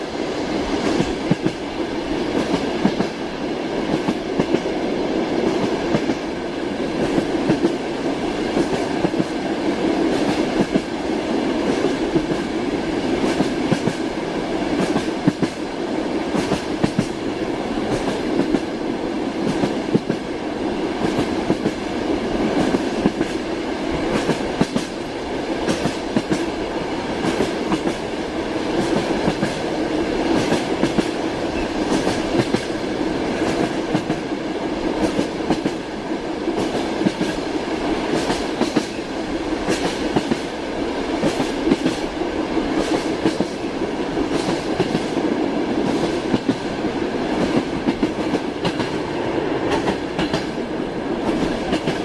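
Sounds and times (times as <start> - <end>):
train wheels clicking on rails: 0.0 - 52.0.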